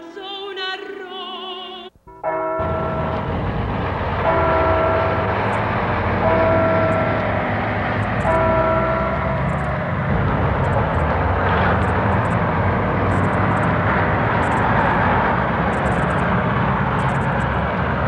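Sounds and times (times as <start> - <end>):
loud steady rumbling: 2.6 - 18.0.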